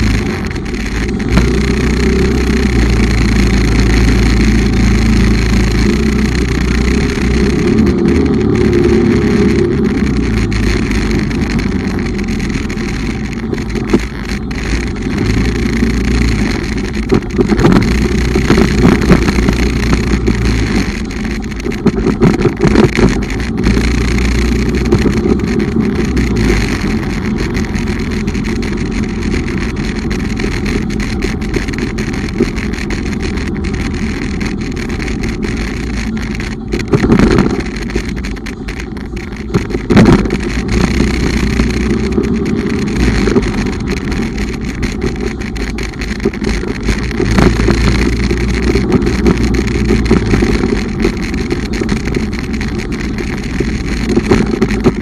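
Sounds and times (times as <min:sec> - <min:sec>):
motorcycle engine: 0:00.0 - 0:55.0
road noise: 0:00.0 - 0:55.0.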